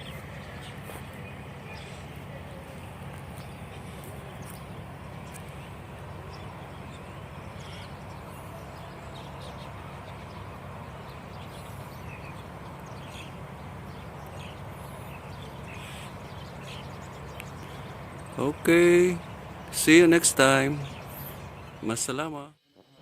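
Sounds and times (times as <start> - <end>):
low background rumble: 0.0 - 22.0
birds chirping: 0.0 - 23.0.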